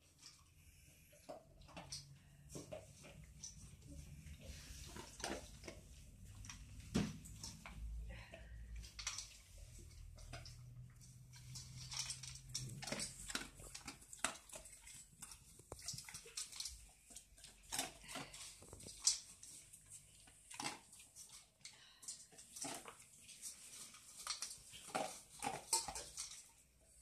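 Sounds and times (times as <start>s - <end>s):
dog crunching and chewing food: 0.0s - 8.1s, 8.7s - 27.0s.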